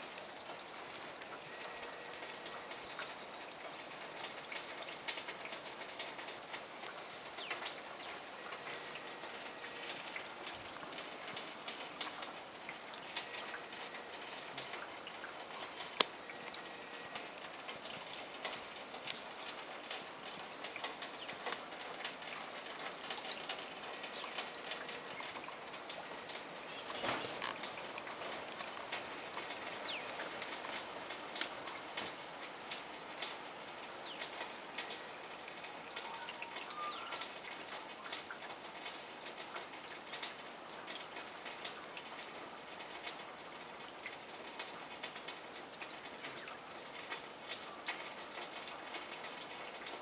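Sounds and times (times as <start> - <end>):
wet snow and drips pattering: 0.0 - 50.0.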